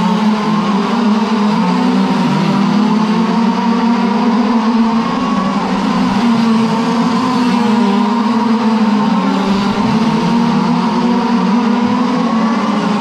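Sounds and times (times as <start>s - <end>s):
small engines buzzing at high revs: 0.0s - 13.0s.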